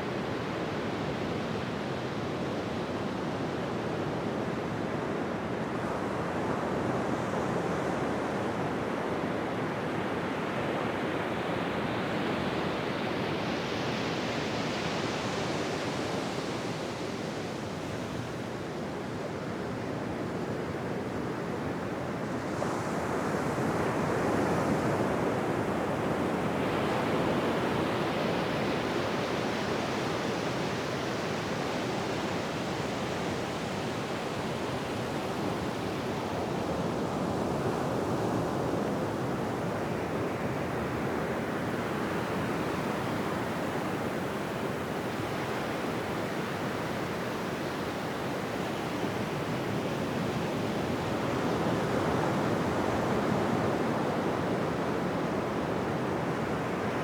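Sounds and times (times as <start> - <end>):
ocean surf washing on a beach: 0.0 - 57.0.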